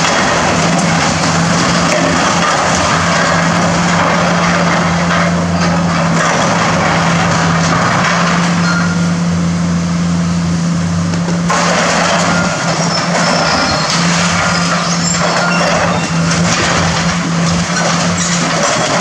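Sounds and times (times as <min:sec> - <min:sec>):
steel and debris grinding and crashing: 0:00.0 - 0:09.4, 0:11.5 - 0:19.0
diesel engine running under load: 0:00.0 - 0:19.0.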